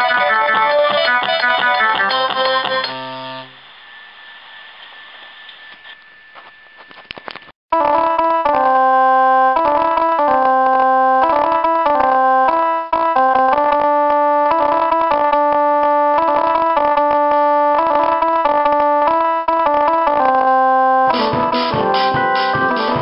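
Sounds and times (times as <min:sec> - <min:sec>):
electronic keyboard playing a tune: 0:00.0 - 0:03.5, 0:07.8 - 0:23.0.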